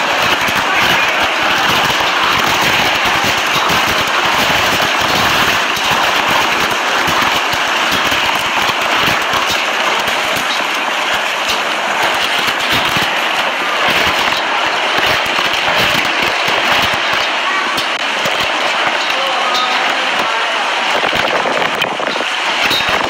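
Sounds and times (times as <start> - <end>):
heavy rain pelting down: 0.0 - 23.0.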